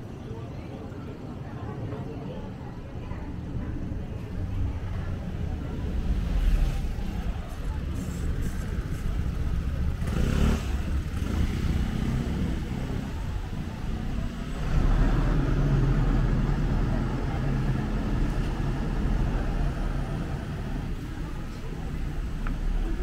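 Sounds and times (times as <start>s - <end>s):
vehicles passing: 3.2s - 23.0s.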